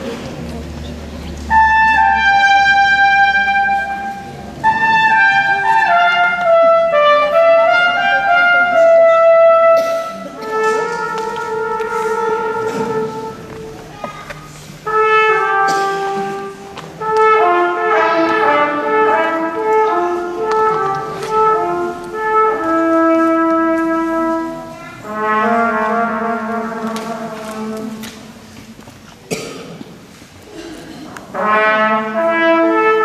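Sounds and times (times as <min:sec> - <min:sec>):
wind and brass instruments playing: 0:01.4 - 0:28.6, 0:31.3 - 0:33.0.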